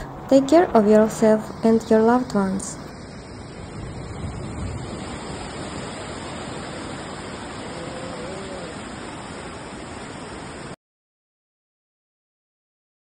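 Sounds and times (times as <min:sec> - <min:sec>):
floodwater rushing: 0:00.0 - 0:10.8.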